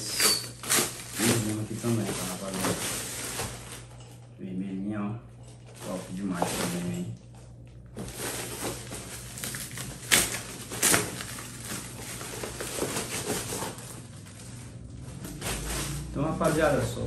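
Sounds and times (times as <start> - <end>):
plastic bag rustling and crinkling: 0.0 - 4.2, 5.7 - 7.1, 7.9 - 17.0.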